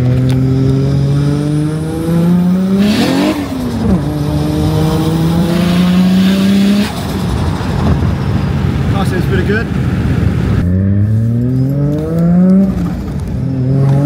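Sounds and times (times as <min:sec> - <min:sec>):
car engine accelerating: 0:00.0 - 0:09.2, 0:09.8 - 0:14.0.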